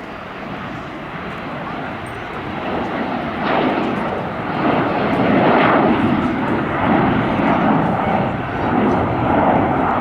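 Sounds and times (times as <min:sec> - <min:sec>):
jet airliner engines rushing: 0:00.0 - 0:10.0.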